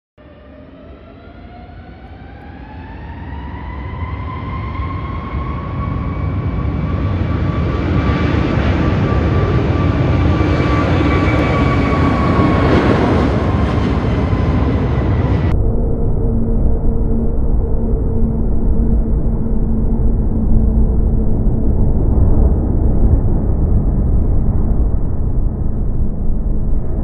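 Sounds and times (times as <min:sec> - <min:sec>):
jet engine roar: 0:00.2 - 0:27.0
jet engine whine: 0:00.2 - 0:27.0.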